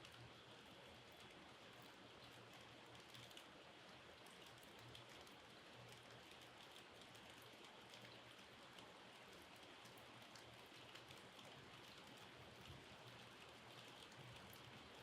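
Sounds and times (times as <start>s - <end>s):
faint steady rainfall: 0.0s - 15.0s
raindrops ticking on a surface: 0.0s - 15.0s.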